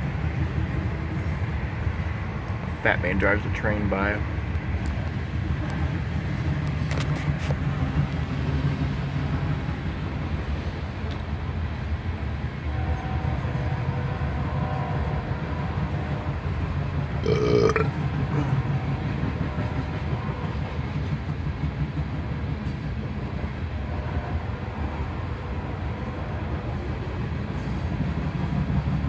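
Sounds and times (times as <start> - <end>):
passing train rumble: 0.0 - 29.0.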